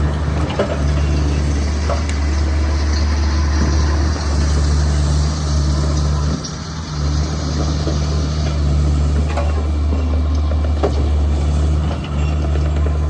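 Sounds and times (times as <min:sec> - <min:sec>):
mini excavator diesel engine: 0:00.0 - 0:13.0.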